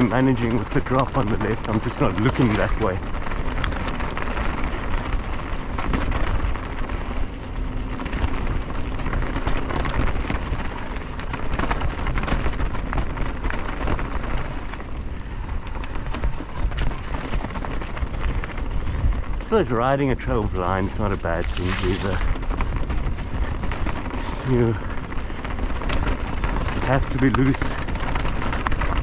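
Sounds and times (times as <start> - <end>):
bike tyres on dirt trail: 0.0 - 29.0
low rumble: 0.0 - 29.0
small clicks and rattles: 0.0 - 29.0.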